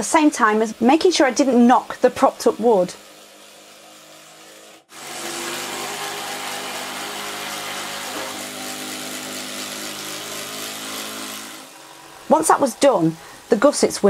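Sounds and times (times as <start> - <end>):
cordless drill driving a screw: 0.0 - 14.0.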